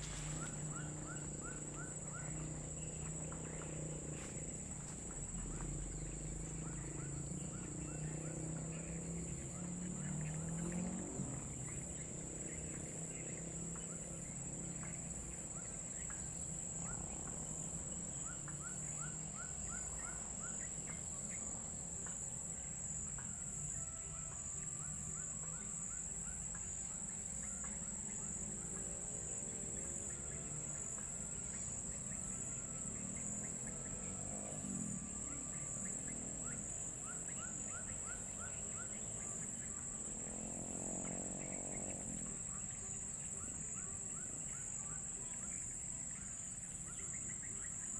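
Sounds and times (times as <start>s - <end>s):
insect drone: 0.0s - 47.9s.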